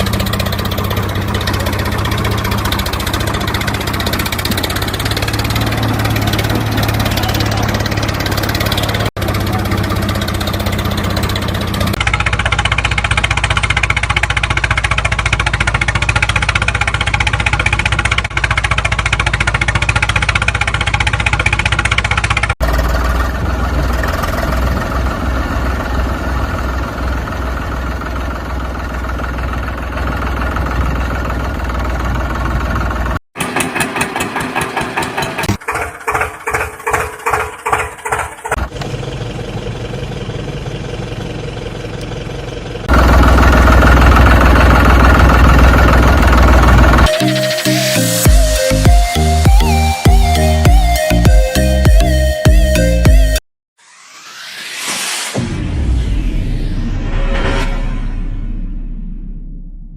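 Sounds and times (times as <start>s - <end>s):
engine chugging unevenly: 0.0s - 53.4s
tractor engines running: 0.0s - 53.4s.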